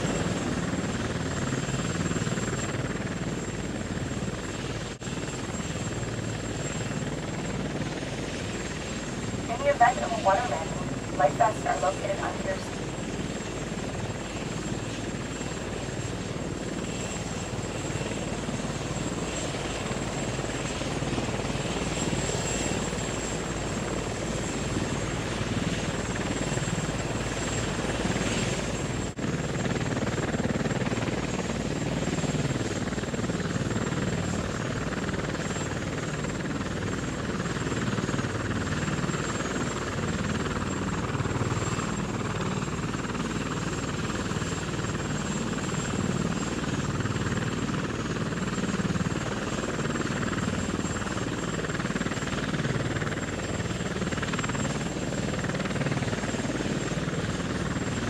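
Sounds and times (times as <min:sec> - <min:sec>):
aircraft flight drone: 0:00.0 - 0:58.0.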